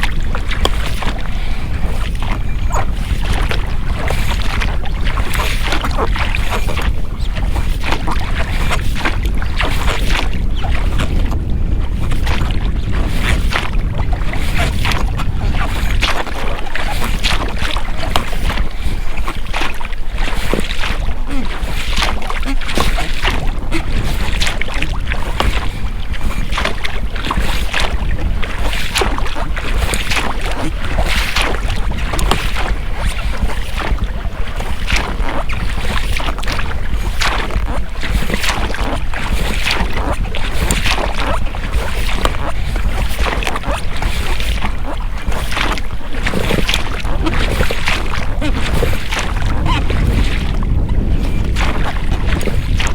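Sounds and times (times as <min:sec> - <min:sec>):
oars splashing in water: 0:00.0 - 0:52.9
rowlocks creaking: 0:00.0 - 0:52.9
wind on microphone: 0:00.0 - 0:52.9.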